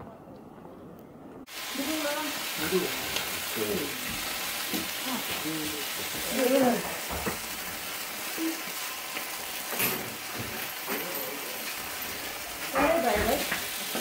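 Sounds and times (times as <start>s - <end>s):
food sizzling on hot plate: 1.5s - 14.0s.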